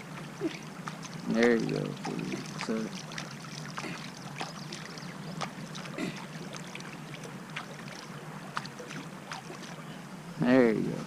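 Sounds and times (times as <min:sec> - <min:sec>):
water sloshing and splashing: 0:00.0 - 0:10.4.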